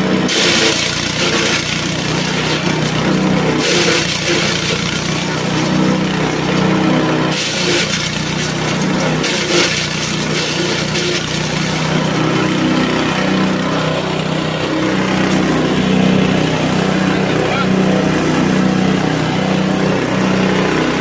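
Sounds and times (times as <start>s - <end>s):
chopper machine engine running: 0.0s - 21.0s.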